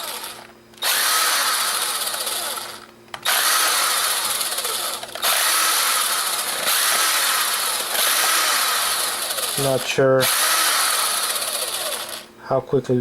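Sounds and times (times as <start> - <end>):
power screwdriver running: 0.0 - 12.3.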